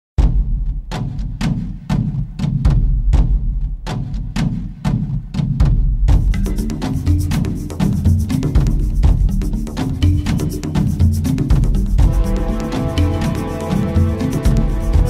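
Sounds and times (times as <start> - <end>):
music with drum beat and bass: 0.2 - 15.0.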